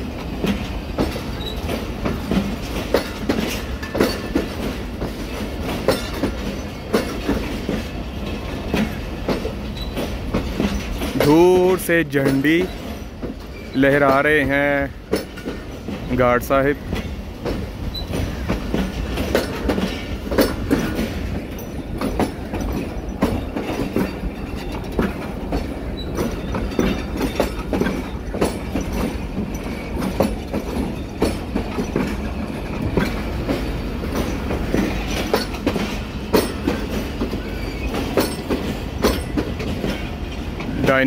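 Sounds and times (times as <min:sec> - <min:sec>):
low train rumble: 0:00.0 - 0:41.0
train wheels clicking over rail joints: 0:00.0 - 0:41.0.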